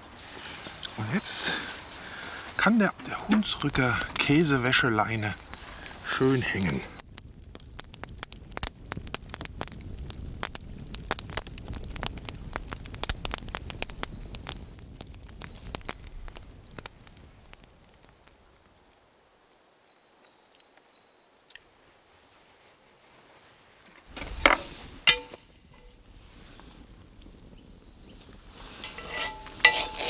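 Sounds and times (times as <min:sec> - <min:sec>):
campfire crackling and popping: 0:00.0 - 0:19.6, 0:23.9 - 0:30.0.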